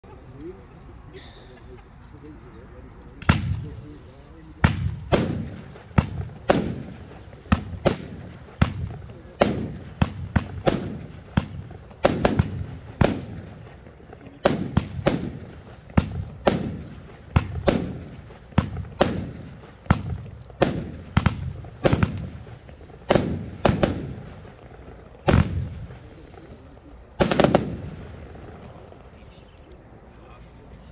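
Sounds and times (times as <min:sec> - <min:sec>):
firework battery shots: 0:03.0 - 0:29.9.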